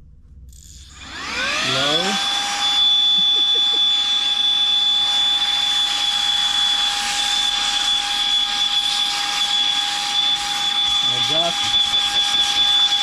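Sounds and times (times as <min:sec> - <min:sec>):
handheld vacuum motor whining: 0:00.6 - 0:13.0.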